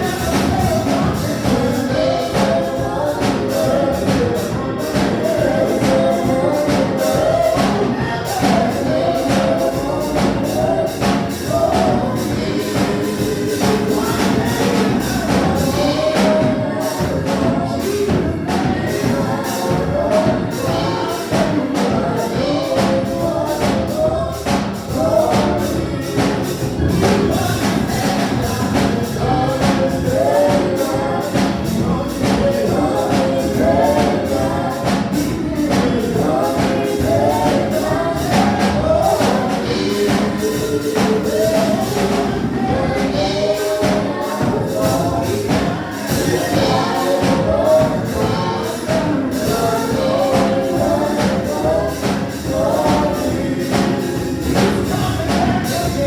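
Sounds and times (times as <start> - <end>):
choir singing over a band: 0.0 - 56.0
percussion beat: 0.0 - 56.0.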